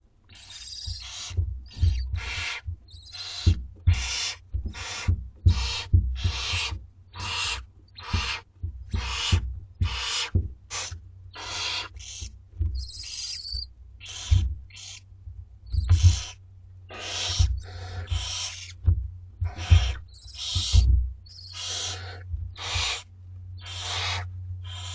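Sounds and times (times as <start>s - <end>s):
soft low bumps: 0.0s - 24.8s
owlets rasping screeches: 0.3s - 15.0s, 15.8s - 18.8s, 19.4s - 23.0s, 23.6s - 24.9s.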